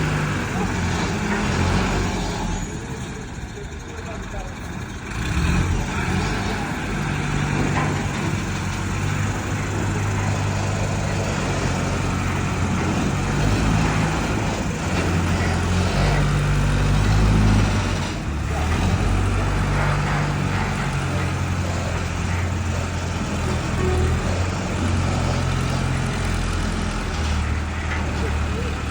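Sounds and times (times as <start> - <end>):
large vehicle engine running: 0.0 - 28.9.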